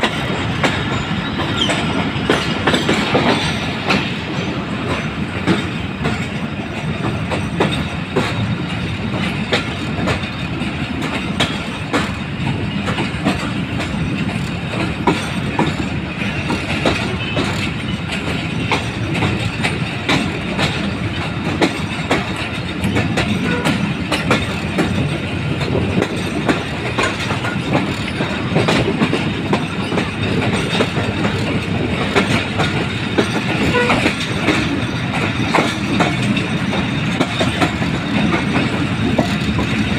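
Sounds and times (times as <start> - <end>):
train rumble: 0.0 - 39.9
wheels clicking over rail joints: 0.0 - 39.9.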